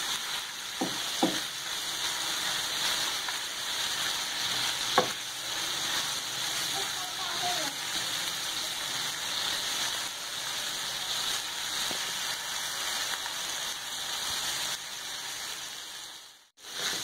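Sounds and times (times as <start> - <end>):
livers sizzling on a griddle: 0.0 - 17.0.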